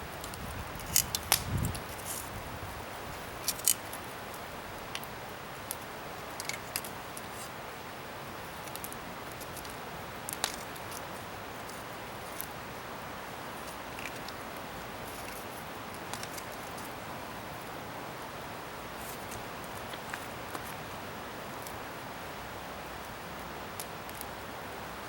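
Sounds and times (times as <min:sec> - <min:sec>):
bonfire hissing and crackling: 0:00.0 - 0:25.0.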